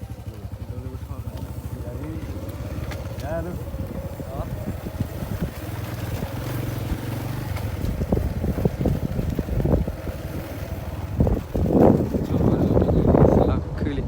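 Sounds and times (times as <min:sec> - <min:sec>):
vehicle engine humming: 0:00.0 - 0:14.0
wind buffeting microphone: 0:00.0 - 0:14.0.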